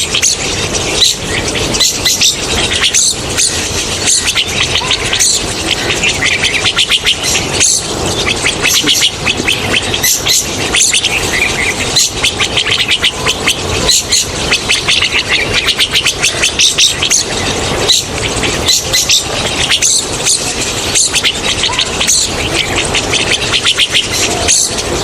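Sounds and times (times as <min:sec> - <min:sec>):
flock of starlings chattering: 0:00.0 - 0:25.0.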